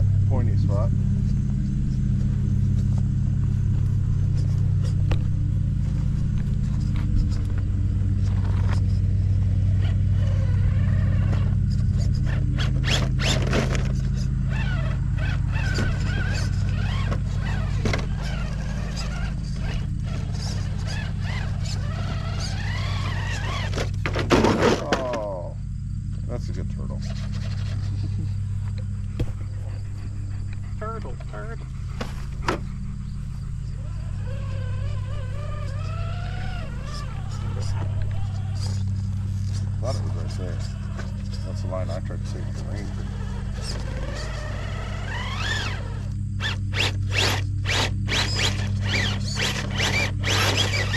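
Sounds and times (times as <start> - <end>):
electric motor whine: 0.0 - 50.9
steady low hum: 0.0 - 50.9
tires knocking on rock: 1.1 - 25.4, 27.1 - 30.2, 31.8 - 50.9.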